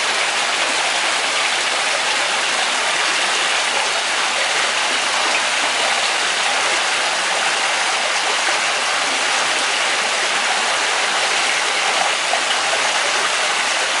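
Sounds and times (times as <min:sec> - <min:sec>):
waterfall pouring into pool: 0:00.0 - 0:14.0.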